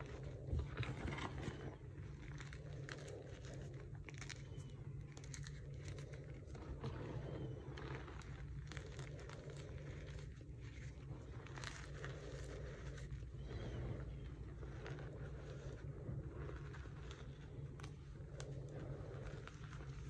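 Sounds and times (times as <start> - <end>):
hands crumbling chalk: 0.0 - 20.0
steady low hum: 0.0 - 20.0.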